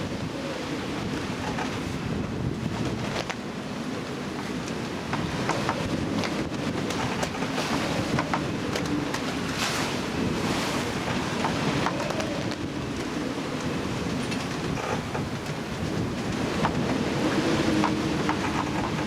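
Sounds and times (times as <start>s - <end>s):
water rushing along sailboat: 0.0s - 19.0s
wind: 0.0s - 19.0s.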